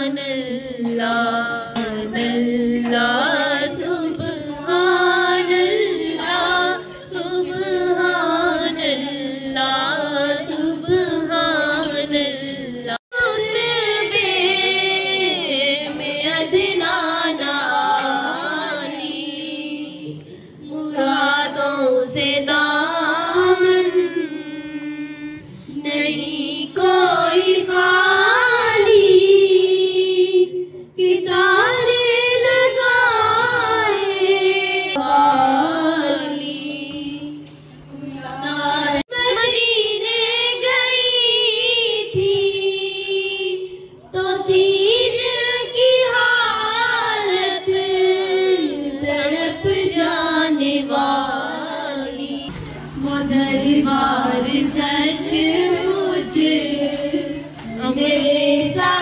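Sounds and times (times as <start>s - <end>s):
steady low hum: 0.0s - 59.0s
woman singing unaccompanied: 0.0s - 59.0s.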